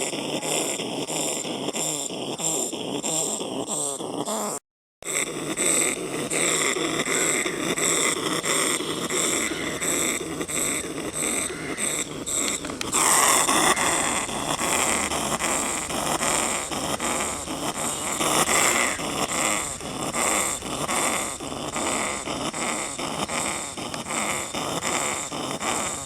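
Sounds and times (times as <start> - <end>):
rat growling hiss: 0.0 - 26.0.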